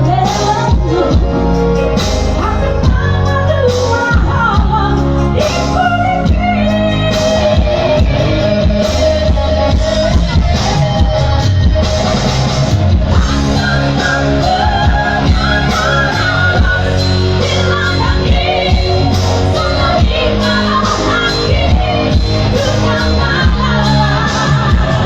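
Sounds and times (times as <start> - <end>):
woman singing: 0.0 - 12.2, 13.1 - 25.0
band accompaniment with bass: 0.0 - 25.0.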